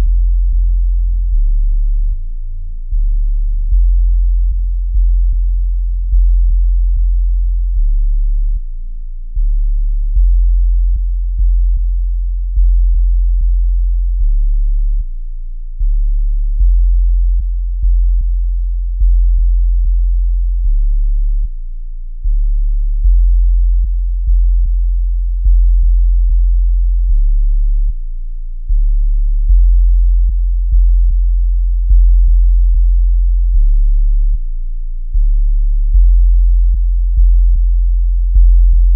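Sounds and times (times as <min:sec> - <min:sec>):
pulsing sub-bass dub music: 0:00.0 - 0:38.9.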